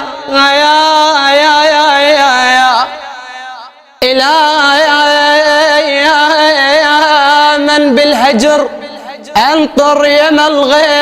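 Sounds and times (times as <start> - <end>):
man chanting long ornamented notes: 0.0 - 11.0.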